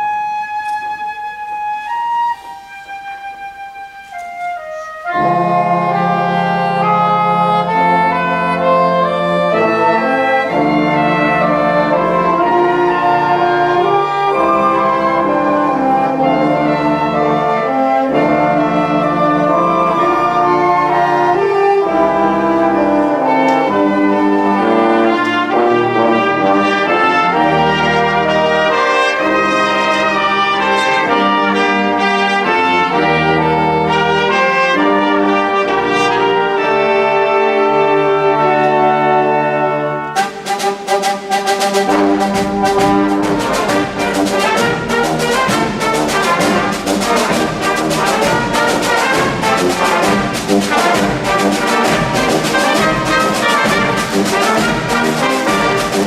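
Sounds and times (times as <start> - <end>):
brass wind band playing: 0.0 - 56.0.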